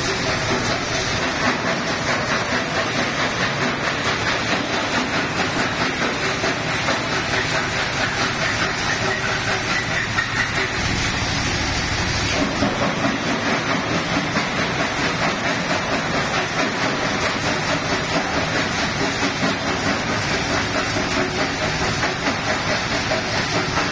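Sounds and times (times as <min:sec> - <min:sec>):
stone crusher clattering: 0:00.0 - 0:11.0, 0:12.3 - 0:23.9.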